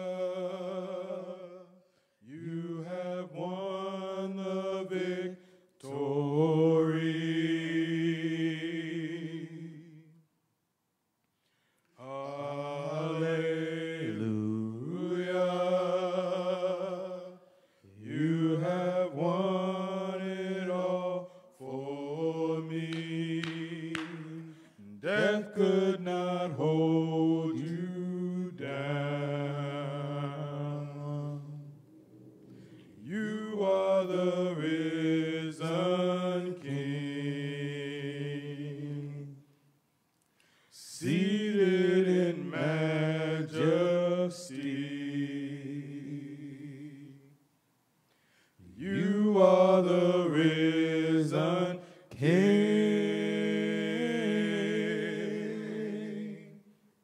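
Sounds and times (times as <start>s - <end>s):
men singing gospel a cappella: 0.0s - 10.2s, 12.0s - 31.8s, 32.5s - 39.5s, 40.7s - 47.4s, 48.6s - 56.7s.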